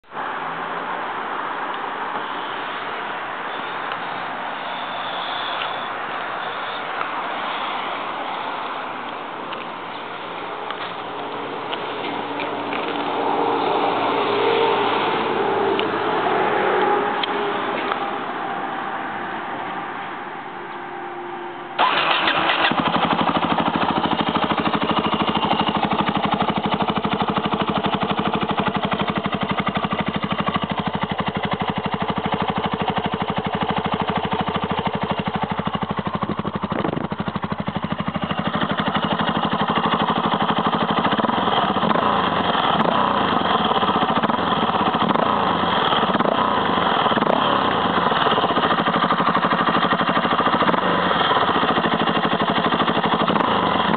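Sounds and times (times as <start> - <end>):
motorcycle engine starting and idling: 4.7 - 18.1, 21.8 - 53.9.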